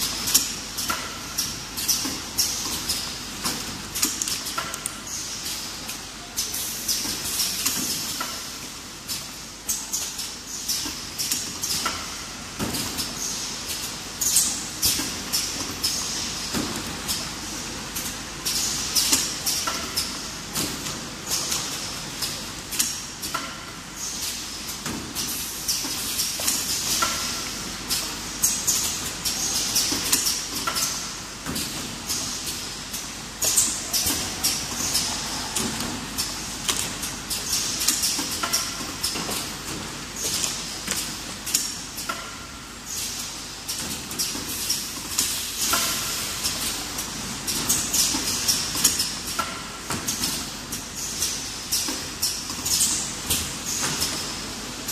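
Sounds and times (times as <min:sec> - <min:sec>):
machine clicks and clatters: 0:00.0 - 0:54.9.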